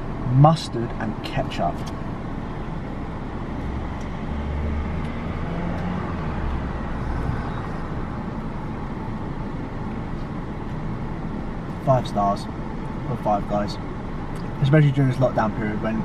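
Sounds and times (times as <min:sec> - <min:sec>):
vehicle rumble and hiss: 0:00.0 - 0:16.0.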